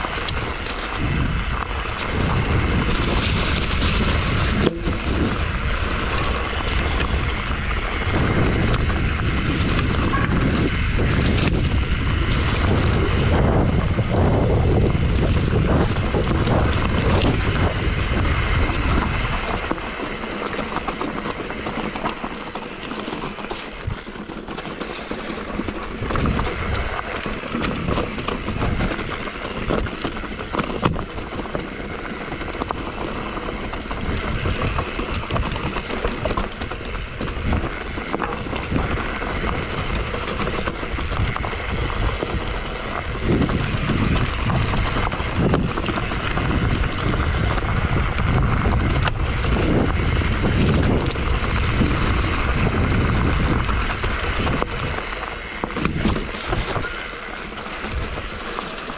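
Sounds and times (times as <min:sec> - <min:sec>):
bike rumbling over rough ground: 0:00.0 - 0:58.9
wind buffeting microphone: 0:00.0 - 0:58.9.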